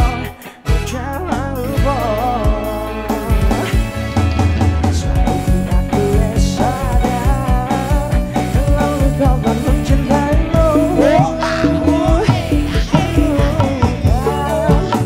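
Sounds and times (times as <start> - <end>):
electric guitar with bending notes: 0.0 - 15.0
steady drum beat: 1.8 - 15.0.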